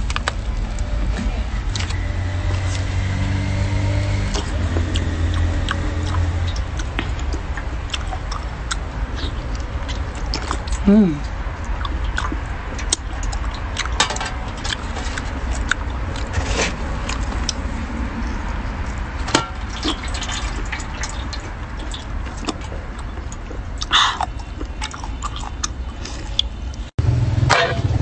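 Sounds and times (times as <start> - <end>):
steady low rumble: 0.0 - 28.0
wet eating mouth sounds: 4.2 - 26.9.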